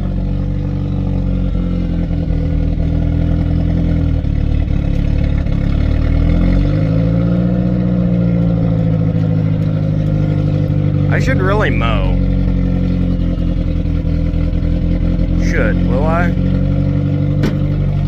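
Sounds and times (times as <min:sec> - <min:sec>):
pickup truck engine revving: 0:00.0 - 0:18.0.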